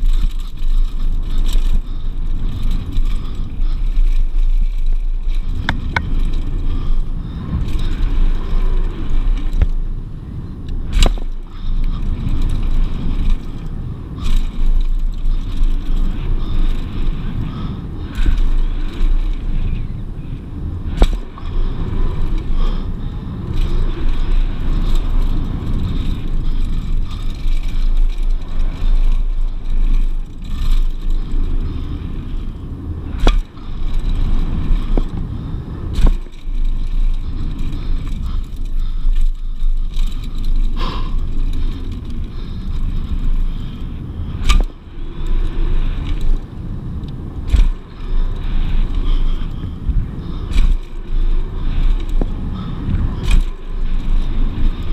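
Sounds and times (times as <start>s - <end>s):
bike clacking over bumps: 0.0s - 54.9s
bike tyres and frame rumbling: 0.0s - 54.9s.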